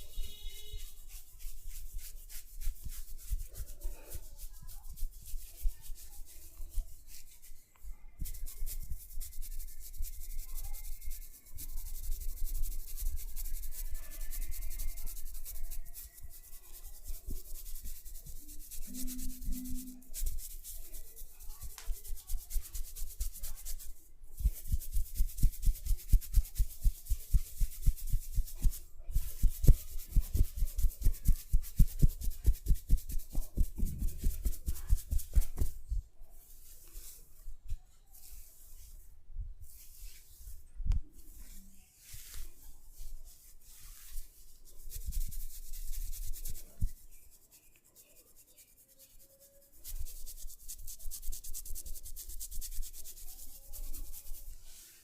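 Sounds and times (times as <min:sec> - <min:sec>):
hands rubbing hair: 0:00.0 - 0:55.0.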